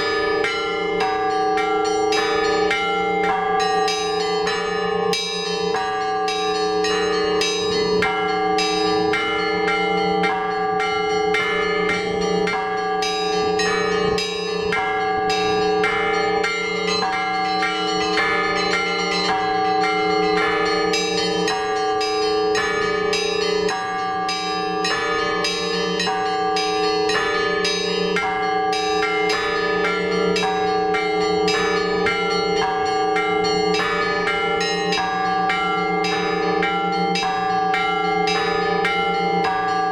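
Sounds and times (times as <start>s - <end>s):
hum of large bells: 0.0s - 39.9s
small church bells rung quickly: 0.0s - 39.9s.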